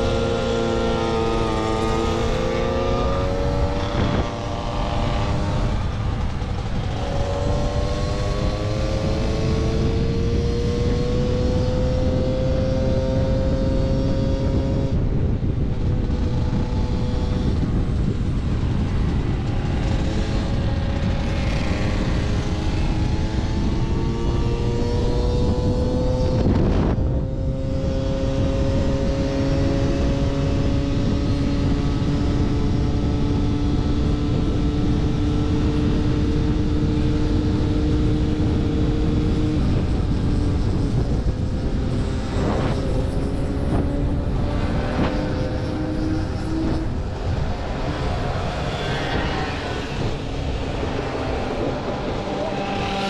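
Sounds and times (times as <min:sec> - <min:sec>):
moped engine at high revs: 0:00.0 - 0:53.0
other mopeds riding nearby: 0:00.0 - 0:53.0
wind rumble on microphone: 0:00.0 - 0:53.0.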